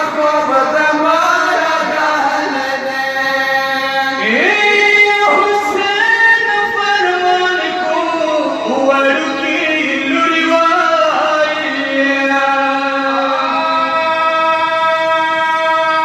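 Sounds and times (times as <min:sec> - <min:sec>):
men chanting through microphone: 0:00.0 - 0:16.0.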